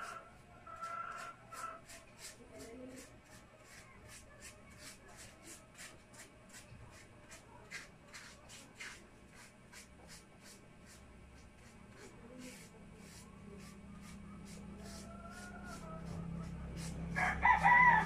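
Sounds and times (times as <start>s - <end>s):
paintbrush stroking: 0.0s - 18.0s.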